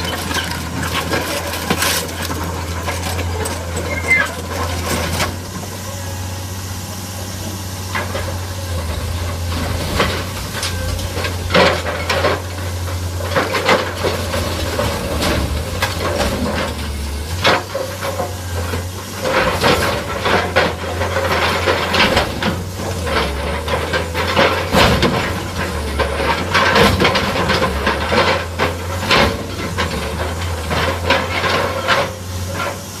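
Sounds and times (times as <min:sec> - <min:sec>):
excavator crushing car metal: 0:00.0 - 0:06.3, 0:07.2 - 0:33.0
excavator engine humming: 0:00.0 - 0:33.0.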